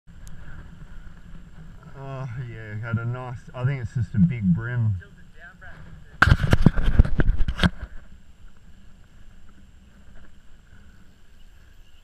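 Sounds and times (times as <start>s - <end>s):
thin high whine: 0.1s - 12.0s.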